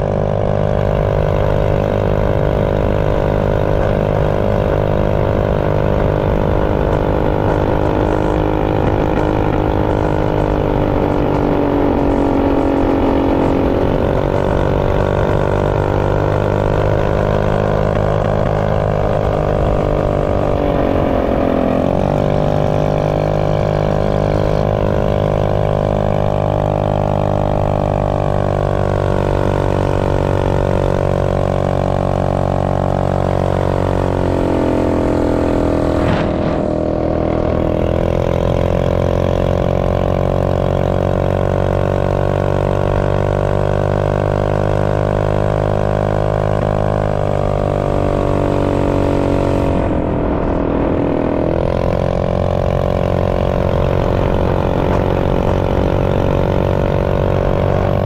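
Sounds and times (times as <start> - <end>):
minibike engine running: 0.0 - 58.0.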